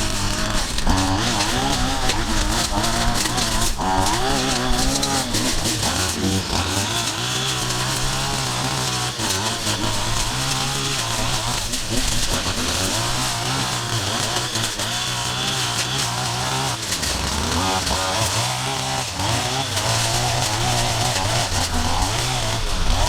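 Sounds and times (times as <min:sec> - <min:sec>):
small petrol engines revving: 0:00.0 - 0:23.0.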